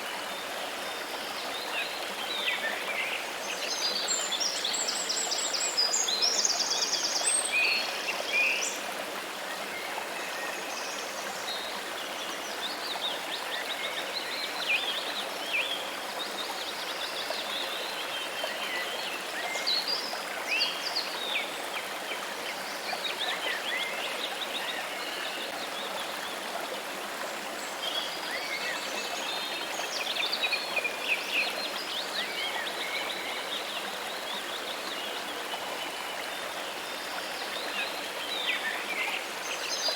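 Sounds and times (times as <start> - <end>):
running water rushing: 7.2 - 39.9.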